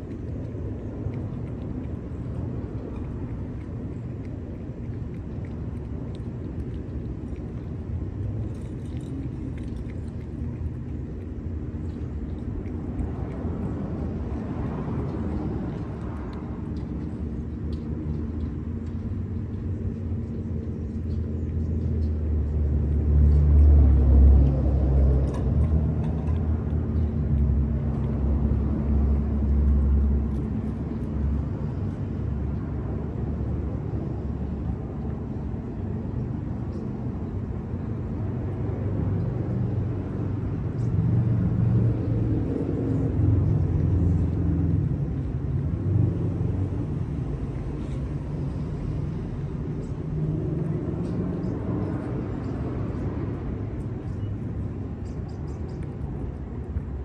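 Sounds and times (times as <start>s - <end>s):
vehicle engine rumble: 0.0s - 57.0s.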